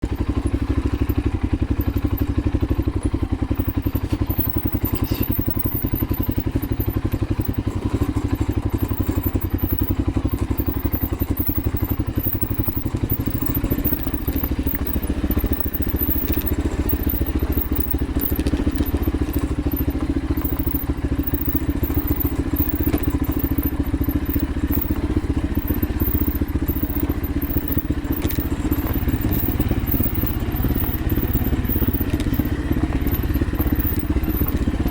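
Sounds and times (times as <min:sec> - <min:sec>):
knocks and clatters on dirt trail: 0:00.0 - 0:34.9
motorcycle engine running: 0:00.0 - 0:34.9.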